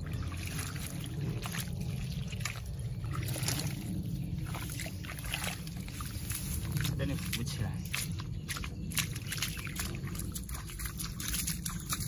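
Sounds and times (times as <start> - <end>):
steady low rumble: 0.0 - 12.0
wet mud splashes and squelches: 0.0 - 12.0.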